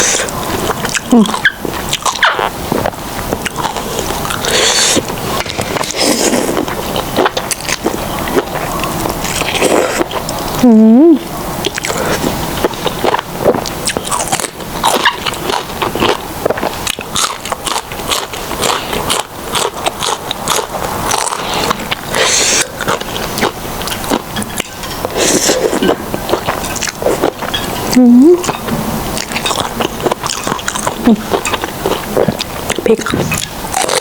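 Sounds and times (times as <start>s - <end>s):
person chewing noodles: 0.0s - 34.0s.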